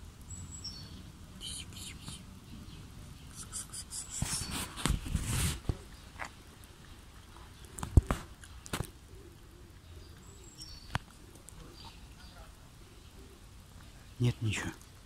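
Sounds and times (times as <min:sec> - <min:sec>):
rustle: 0:00.0 - 0:15.0.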